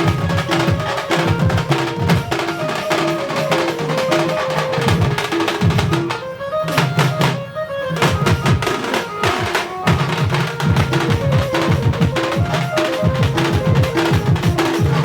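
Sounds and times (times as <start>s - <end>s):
hand drums beating fast rhythm: 0.0s - 7.4s, 8.0s - 15.0s
melody of short held notes: 0.0s - 15.0s.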